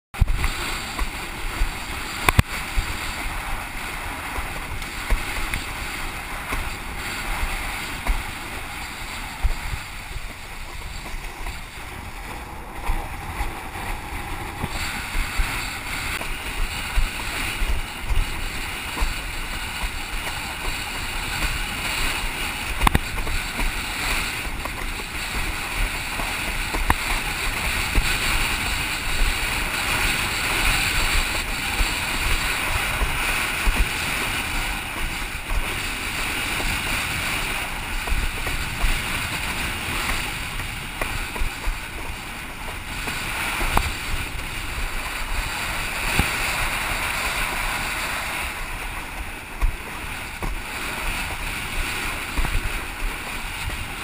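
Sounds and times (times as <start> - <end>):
wind buffeting microphone: 0.1 - 54.0
water rushing and splashing: 0.2 - 54.0.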